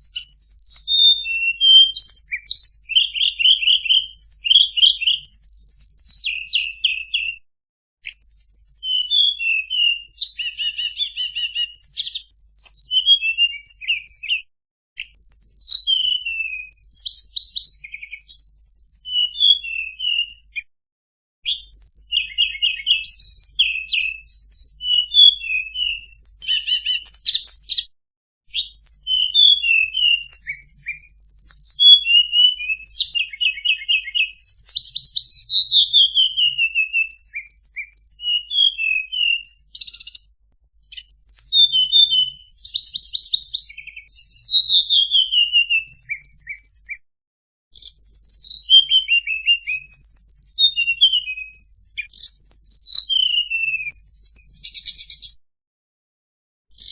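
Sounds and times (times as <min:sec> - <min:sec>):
songbird singing: 0:00.0 - 0:07.4, 0:08.0 - 0:20.7, 0:21.5 - 0:27.8, 0:28.5 - 0:40.3, 0:40.9 - 0:47.0, 0:47.8 - 0:55.4.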